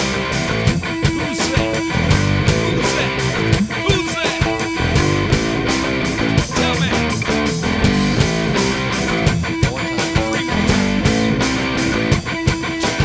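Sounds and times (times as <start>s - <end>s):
drum beat: 0.0s - 13.0s
electric guitar: 0.0s - 13.0s.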